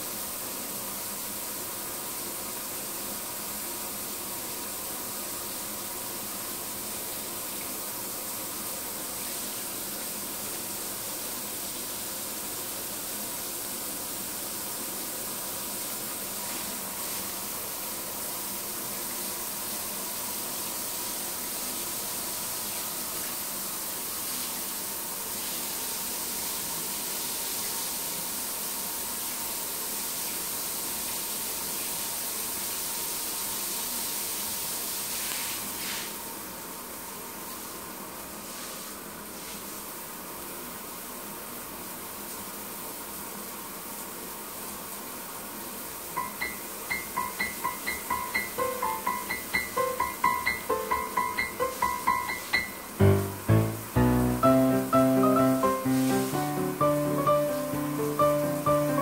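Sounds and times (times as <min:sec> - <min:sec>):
running water: 0:00.0 - 0:36.2, 0:45.8 - 0:59.0.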